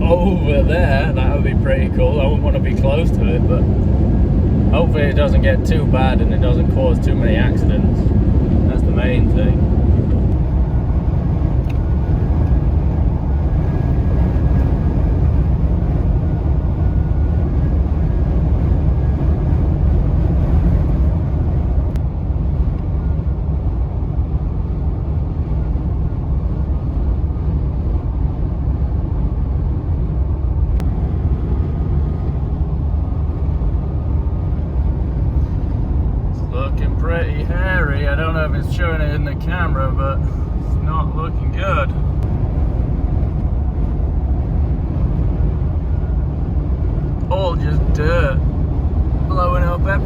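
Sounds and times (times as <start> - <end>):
road and wind noise in truck cab: 0.0 - 50.0.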